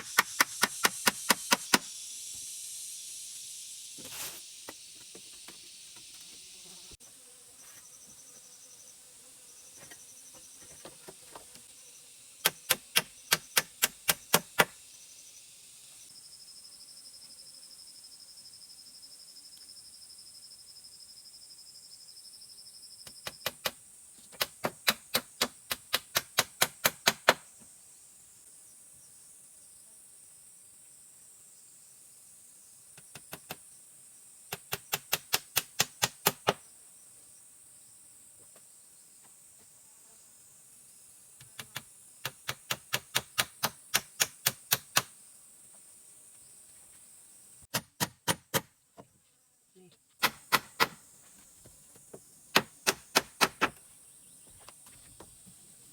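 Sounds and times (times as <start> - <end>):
high insect hiss: 0.0 - 55.9.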